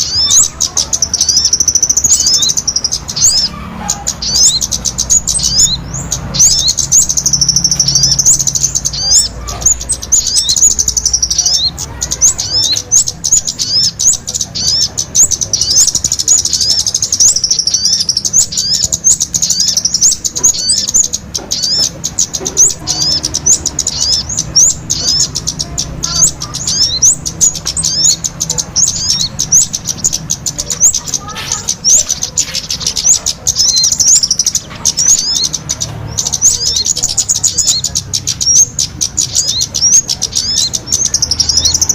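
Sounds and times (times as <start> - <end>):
small birds twittering: 0.0 - 41.9.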